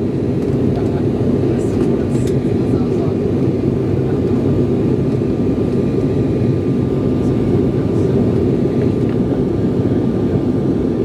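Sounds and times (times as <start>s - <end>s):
jet cabin engine roar: 0.0s - 11.0s.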